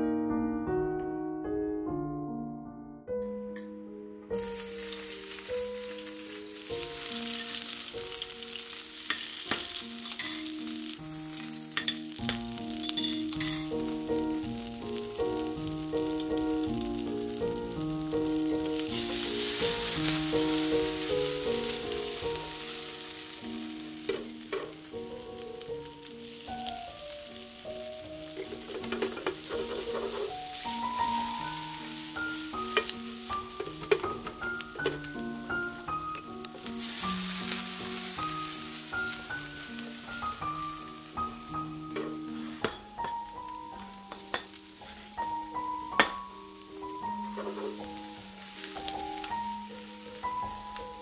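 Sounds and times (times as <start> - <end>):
background music: 0.7 - 51.0
food sizzling in a frying pan: 4.3 - 51.0.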